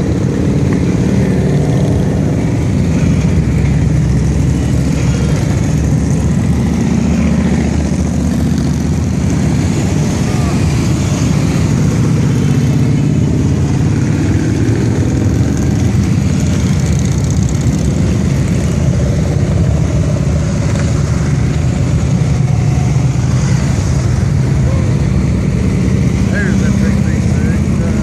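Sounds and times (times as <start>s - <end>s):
motorcycles riding past: 0.0s - 28.0s.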